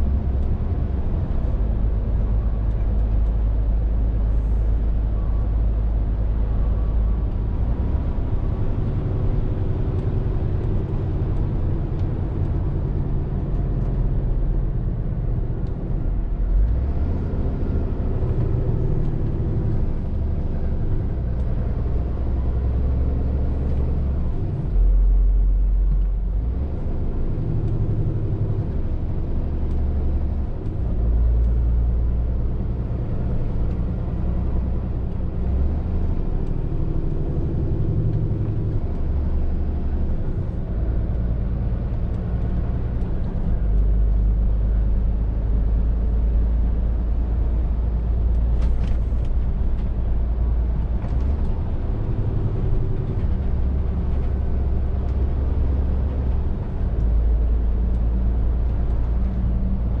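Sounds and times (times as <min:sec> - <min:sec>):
lorry diesel engine droning: 0:00.0 - 1:00.0.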